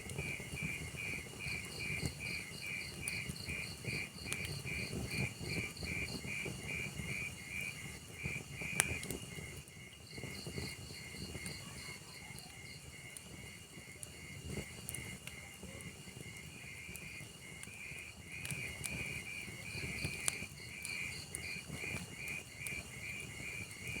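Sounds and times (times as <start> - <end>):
log fire crackling and popping: 0.0 - 24.0
low rumble of flames: 0.0 - 24.0.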